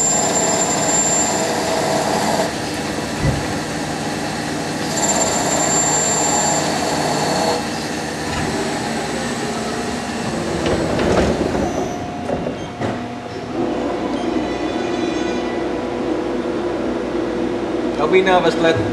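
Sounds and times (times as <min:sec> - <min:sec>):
high-pitched machine whine: 0:00.0 - 0:18.4
machinery running: 0:00.0 - 0:18.9.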